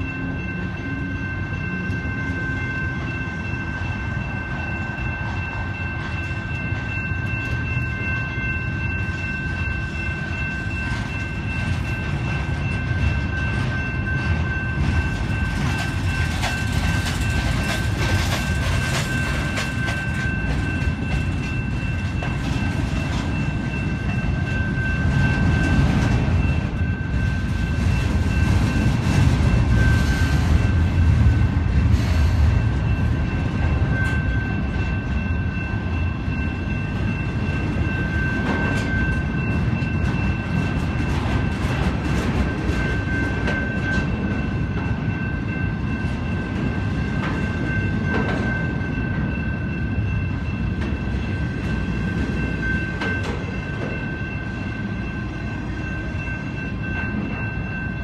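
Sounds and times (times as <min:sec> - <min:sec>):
freight train rumbling past: 0:00.0 - 0:58.0
steady high-pitched tone: 0:00.0 - 0:58.0.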